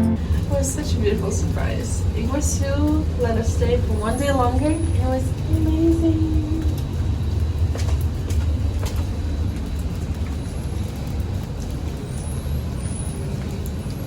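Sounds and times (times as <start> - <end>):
vehicle low rumble: 0.0 - 14.0.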